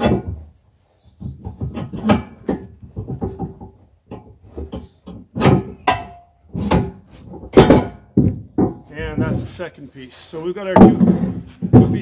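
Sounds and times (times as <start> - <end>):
sharp wooden knocks and clunks: 0.0 - 0.5, 1.2 - 9.6, 10.7 - 12.0.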